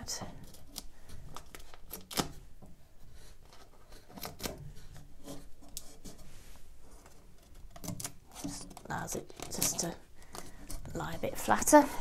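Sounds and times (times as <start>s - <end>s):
hands rubbing tape on wood: 0.4s - 11.0s.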